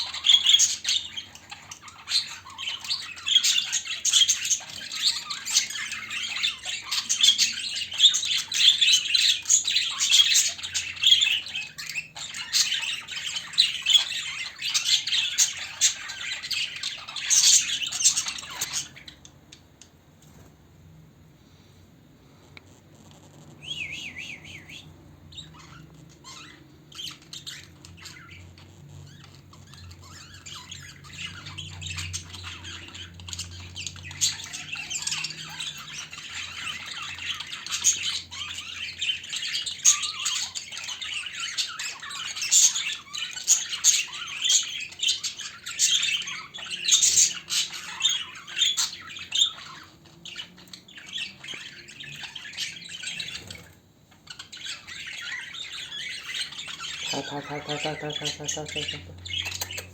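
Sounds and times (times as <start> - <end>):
budgerigars chattering and squawking: 0.0 - 20.6, 23.5 - 59.9.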